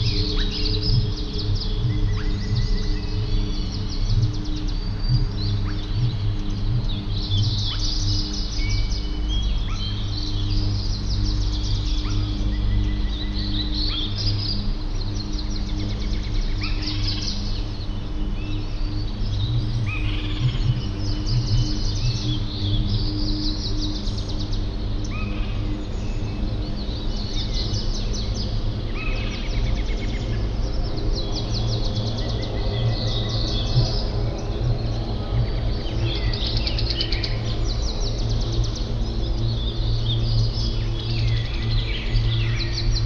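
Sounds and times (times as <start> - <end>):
songbirds singing and calling: 0.0 - 43.0
steady low rumble: 0.0 - 43.0.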